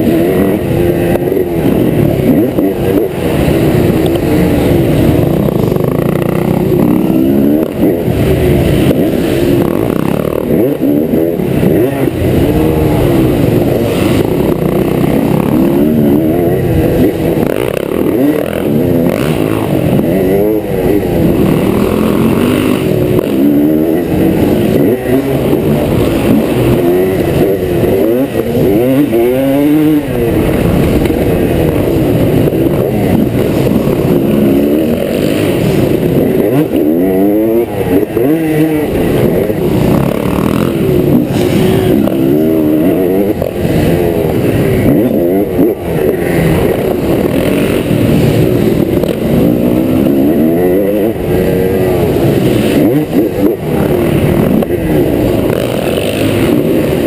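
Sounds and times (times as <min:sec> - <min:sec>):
two-stroke dirt bike engine revving: 0:00.0 - 0:57.0.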